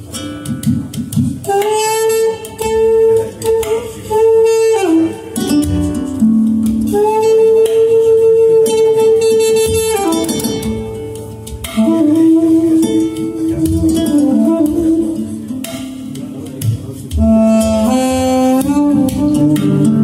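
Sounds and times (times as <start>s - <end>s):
instrumental music over speakers: 0.0s - 20.0s.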